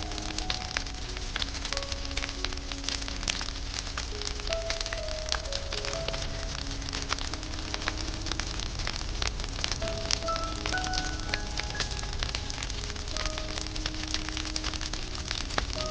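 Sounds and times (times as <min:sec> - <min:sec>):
campfire crackling and popping: 0:00.0 - 0:15.9
soft background music: 0:00.0 - 0:15.9.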